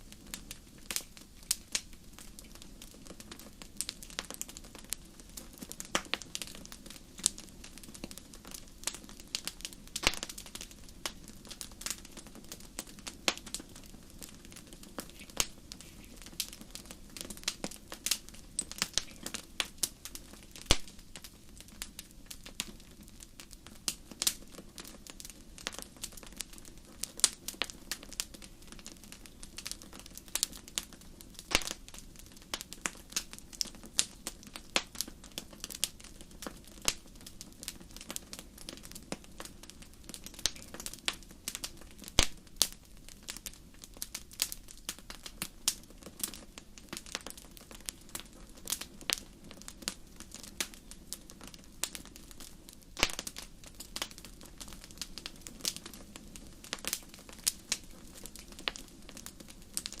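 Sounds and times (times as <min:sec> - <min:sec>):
fire crackling in a fireplace: 0:00.0 - 1:00.0.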